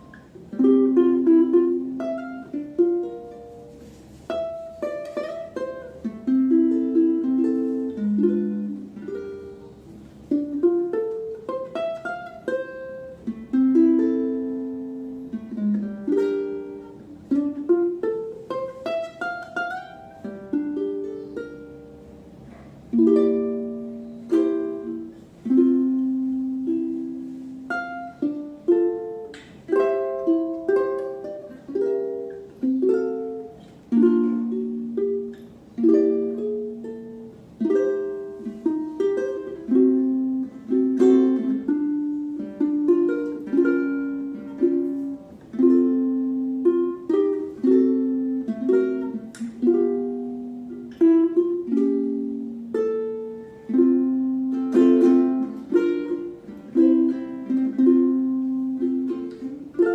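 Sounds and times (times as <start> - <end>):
ukulele played fingerstyle: 0.0 - 59.9.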